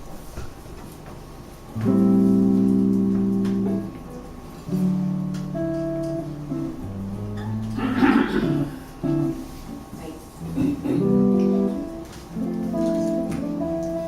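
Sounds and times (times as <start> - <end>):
guitar playing slow chords: 1.7 - 14.0.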